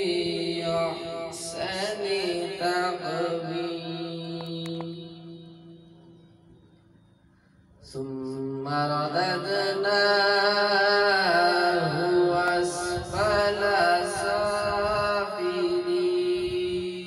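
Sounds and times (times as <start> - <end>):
man chanting through loudspeaker: 0.0 - 6.1, 7.8 - 17.0.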